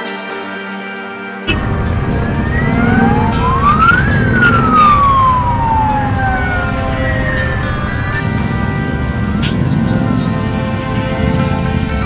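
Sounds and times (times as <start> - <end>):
siren-like wailing tone: 1.5 - 12.0
steady low rumble: 1.5 - 12.0.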